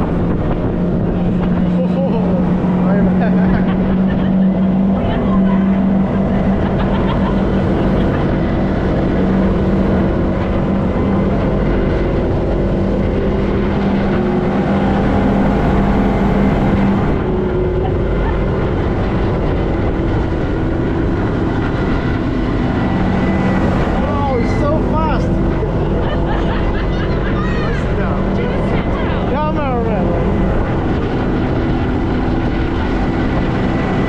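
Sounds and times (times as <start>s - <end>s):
boat engine humming: 0.0s - 34.0s
rush of noise: 0.0s - 34.0s.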